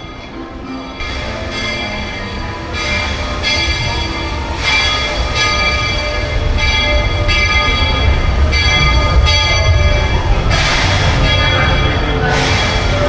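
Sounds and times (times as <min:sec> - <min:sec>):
locomotive bell ringing: 0:00.0 - 0:13.0
steam hissing: 0:00.0 - 0:13.0.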